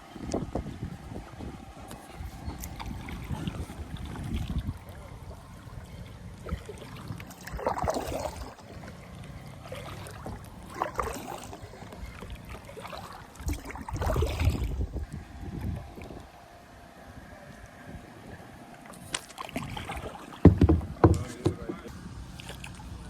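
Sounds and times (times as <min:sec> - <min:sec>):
paddle strokes splashing water: 0:00.0 - 0:16.6, 0:18.6 - 0:23.0.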